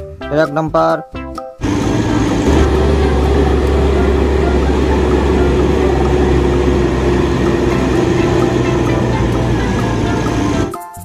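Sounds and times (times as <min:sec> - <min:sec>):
heavy truck engine droning: 0:01.6 - 0:10.7.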